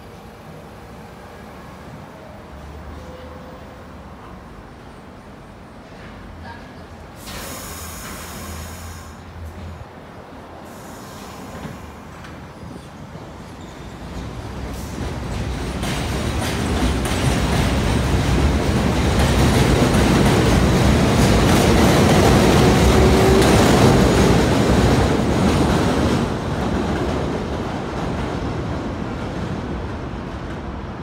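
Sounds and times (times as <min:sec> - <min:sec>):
subway train wheels on rails: 0:00.0 - 0:31.0.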